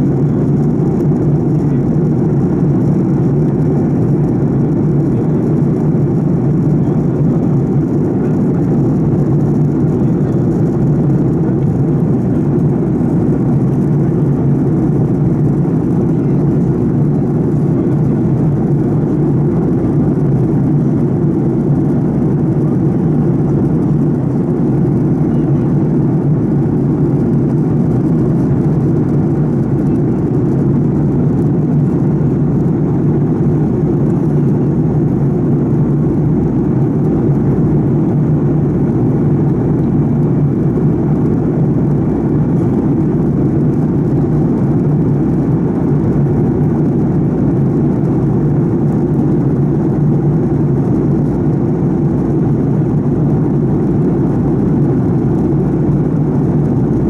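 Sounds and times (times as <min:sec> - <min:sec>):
jet engine drone in cabin: 0:00.0 - 0:57.0.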